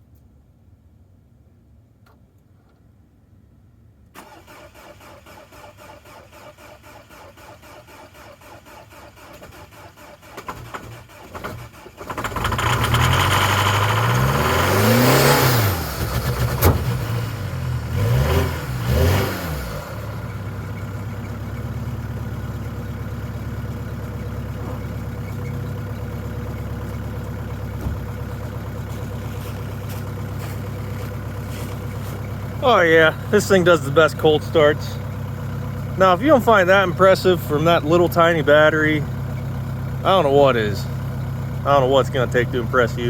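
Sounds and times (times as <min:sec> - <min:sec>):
diesel engine cranking: 0:04.2 - 0:43.0
diesel engine idling: 0:04.2 - 0:43.0
diesel engine revving: 0:04.2 - 0:43.0.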